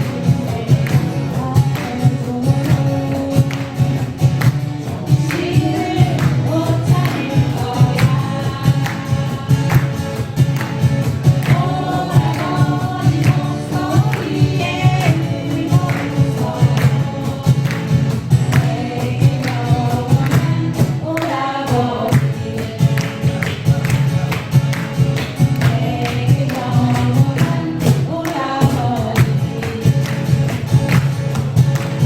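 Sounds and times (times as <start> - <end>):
strummed acoustic guitars: 0.0 - 32.0
voices singing together: 0.0 - 32.0.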